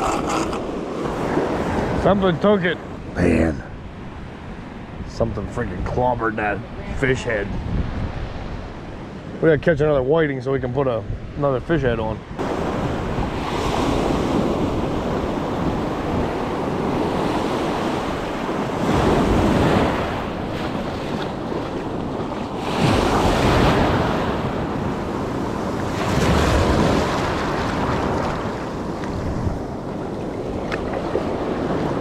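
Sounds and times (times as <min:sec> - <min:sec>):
ocean surf breaking: 0:00.0 - 0:09.5, 0:11.1 - 0:32.0
wind buffeting microphone: 0:02.9 - 0:32.0.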